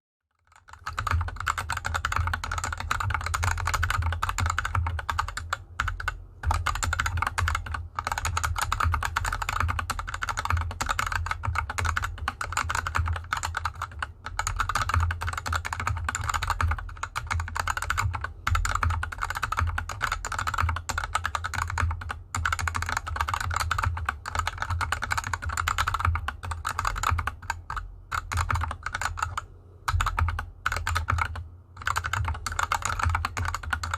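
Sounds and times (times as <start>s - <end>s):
fast mechanical keyboard typing: 0.3s - 33.9s.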